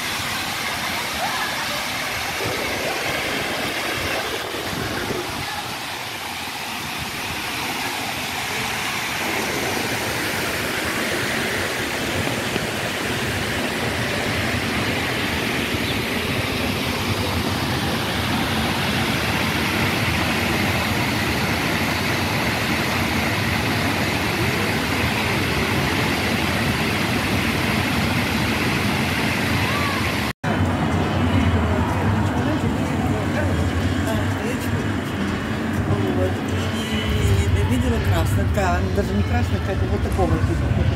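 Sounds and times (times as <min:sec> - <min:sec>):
fountain water splashing into basin: 0:00.0 - 0:34.9.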